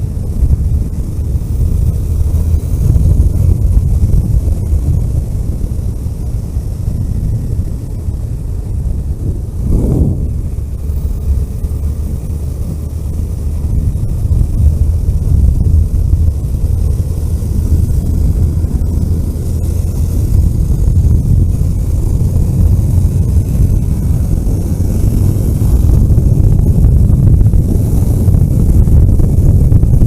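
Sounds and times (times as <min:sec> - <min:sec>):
car engine and tyres rumbling: 0:00.0 - 0:30.0
wind noise: 0:00.0 - 0:30.0.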